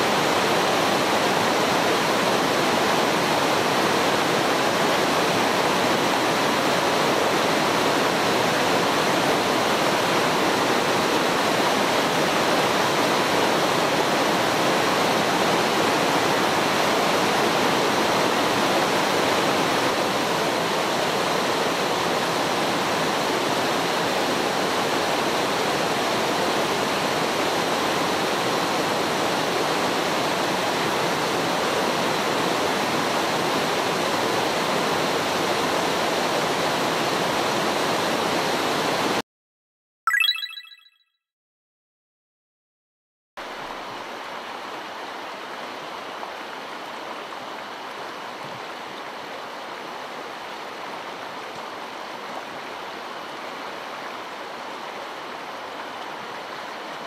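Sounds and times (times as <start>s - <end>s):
stream rushing over rocks: 0.0s - 39.1s, 43.5s - 57.0s.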